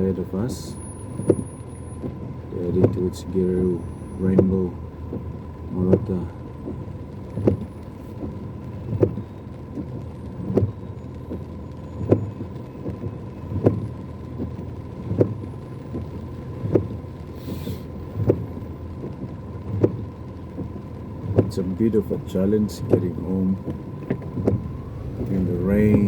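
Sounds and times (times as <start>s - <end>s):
car cabin hum: 0.0s - 26.0s
windscreen wipers thumping: 0.0s - 26.0s
heavy rain: 0.2s - 26.0s.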